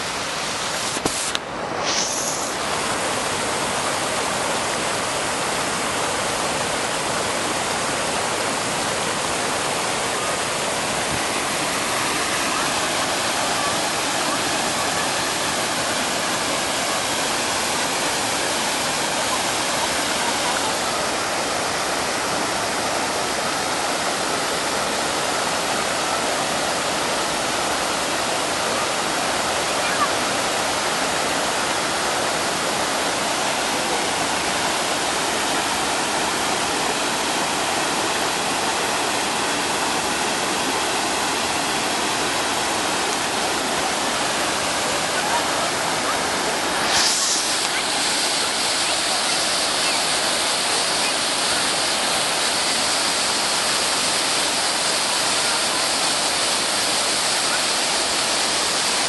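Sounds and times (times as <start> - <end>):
water rushing over a dam: 0.0 - 59.0.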